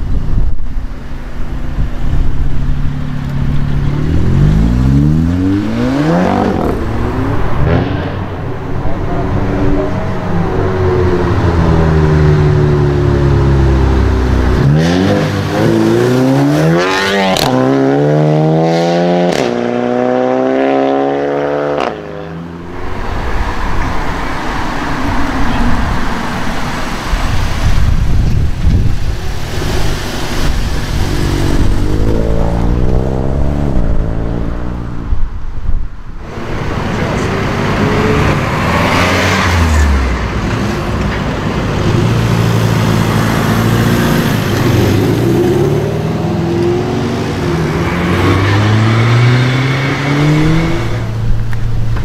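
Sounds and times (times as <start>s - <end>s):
road noise: 0.0s - 52.0s
car engine accelerating: 2.2s - 24.2s, 29.3s - 35.4s, 36.2s - 52.0s.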